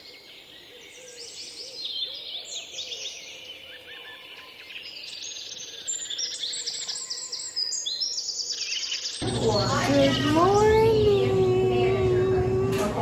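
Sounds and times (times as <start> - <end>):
songbirds singing: 0.0 - 10.8.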